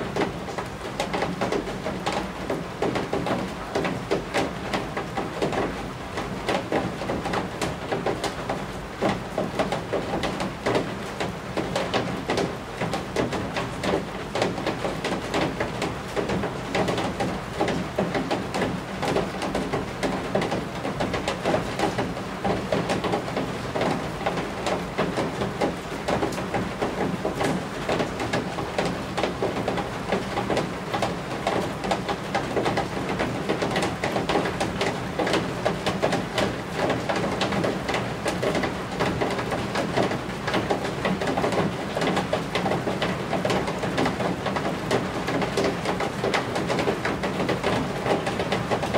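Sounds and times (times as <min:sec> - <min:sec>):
rain falling on a roof: 0:00.0 - 0:48.9.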